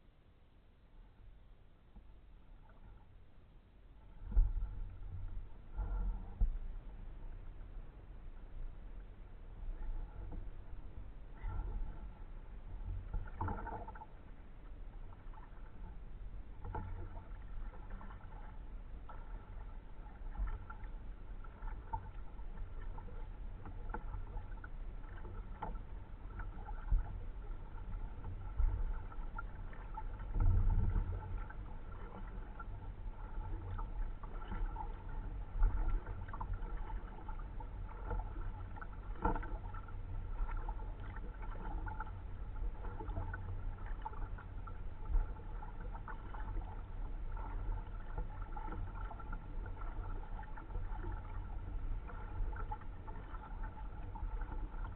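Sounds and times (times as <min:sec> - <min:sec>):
low rumble: 0:00.0 - 0:54.9
kayak paddle strokes in water: 0:01.6 - 0:54.9.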